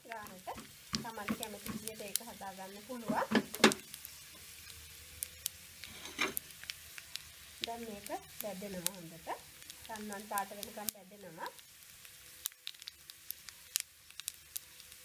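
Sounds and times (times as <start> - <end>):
oil popping and crackling: 0.0 - 15.0
vegetables sizzling in hot oil: 0.0 - 15.0.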